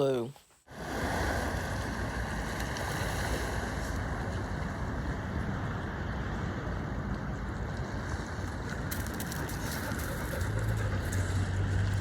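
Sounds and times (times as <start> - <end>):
sea water rushing: 0.7 - 11.0.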